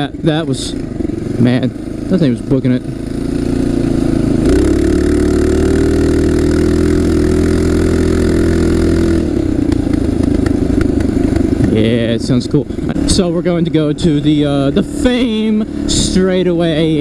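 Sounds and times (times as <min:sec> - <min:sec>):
racing engine revving: 0:00.0 - 0:17.0.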